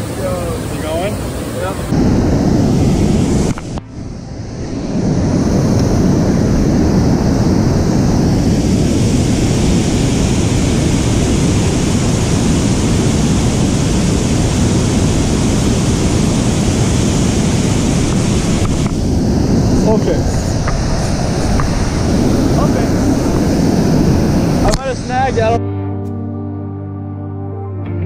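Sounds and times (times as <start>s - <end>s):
wind rumbling on microphone: 0.0s - 25.6s.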